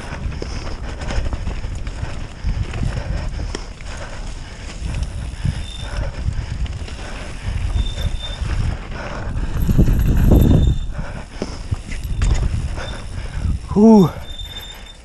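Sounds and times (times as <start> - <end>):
bike frame and chain rattling: 0.0 - 15.0.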